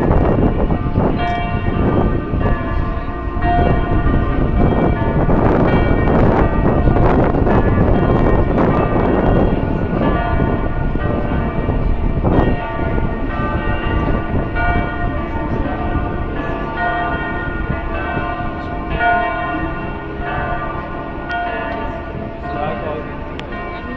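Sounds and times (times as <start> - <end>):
steady low rumble: 0.0 - 23.6
church bells pealing: 0.0 - 23.9.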